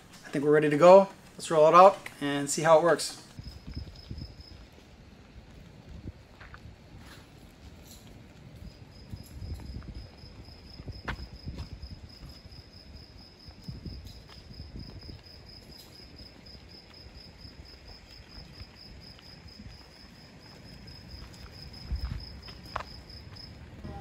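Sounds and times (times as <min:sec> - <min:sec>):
crickets trilling: 0:00.4 - 0:24.0
aircraft wheels rolling on pavement: 0:02.9 - 0:24.0.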